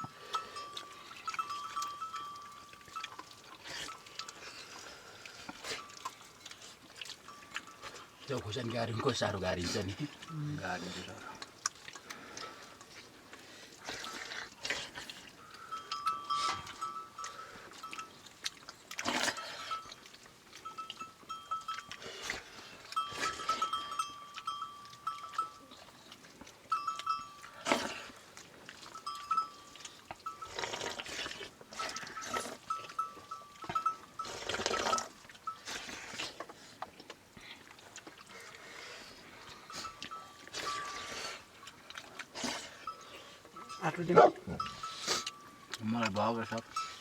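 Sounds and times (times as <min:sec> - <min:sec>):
sheep bells tinkling: 0:00.0 - 0:11.4, 0:15.3 - 0:18.4, 0:19.3 - 0:36.2, 0:38.8 - 0:47.0.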